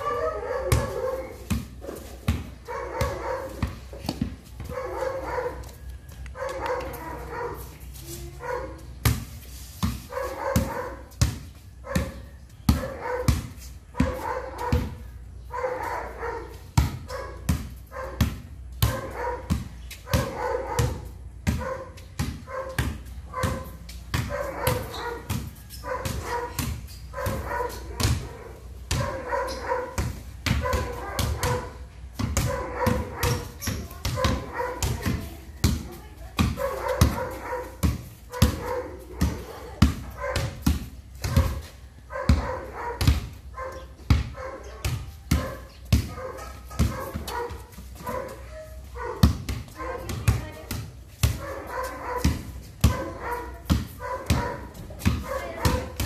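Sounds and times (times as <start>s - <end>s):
basketball bouncing on concrete: 0.2s - 56.0s.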